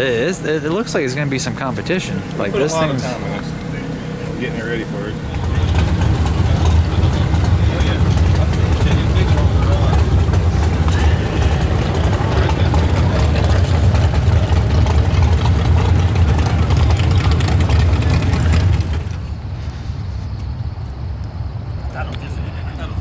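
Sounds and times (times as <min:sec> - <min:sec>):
large engine idling: 0:00.0 - 0:23.0.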